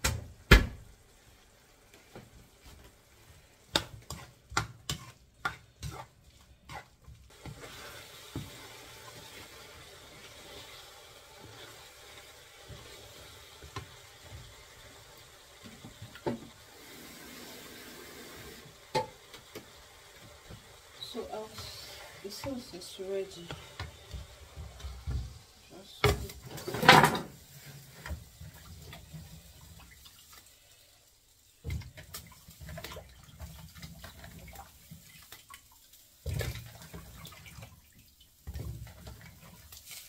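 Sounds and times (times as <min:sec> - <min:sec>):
sauce sizzling in a frying pan: 0:00.8 - 0:32.7, 0:33.3 - 0:40.0.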